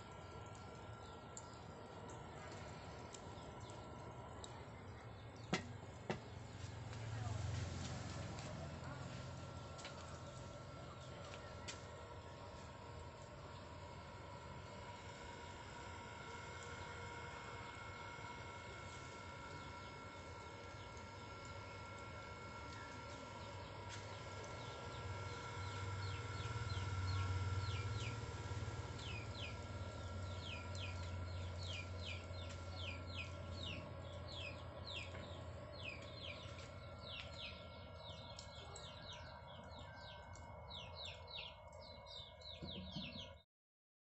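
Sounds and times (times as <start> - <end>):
birds chirping: 0.0 - 43.4
electric blower humming: 5.4 - 43.2.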